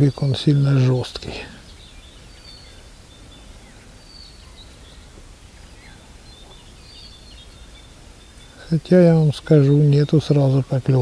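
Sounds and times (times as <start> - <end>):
faint bird chirps: 0.0 - 11.0
low background noise: 0.0 - 11.0.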